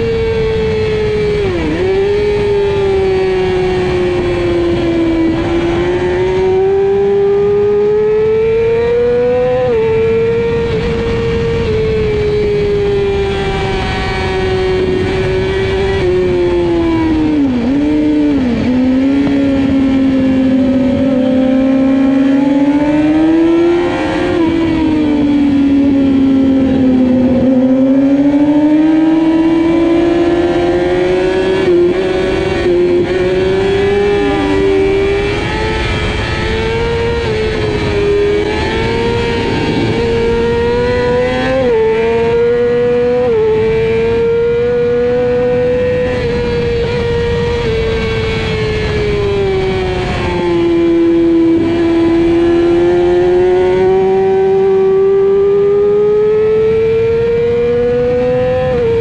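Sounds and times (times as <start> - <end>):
sportbike engine at high revs: 0.0 - 59.0
wind rush over microphone: 0.0 - 59.0.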